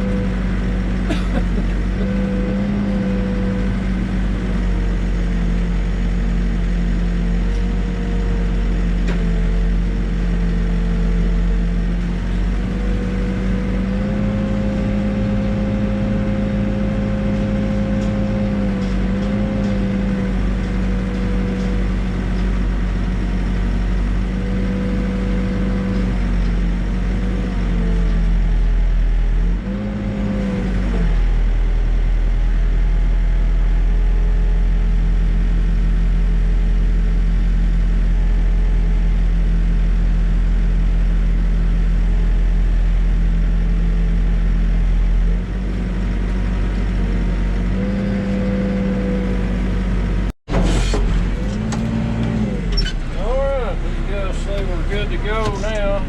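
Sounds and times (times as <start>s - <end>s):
backhoe engine running: 0.0s - 56.0s.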